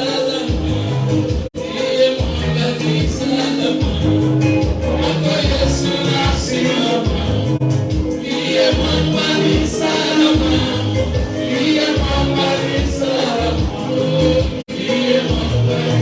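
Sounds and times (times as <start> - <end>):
driving bass line: 0.0 - 16.0
gospel band with singers: 0.0 - 16.0
percussion: 0.0 - 16.0.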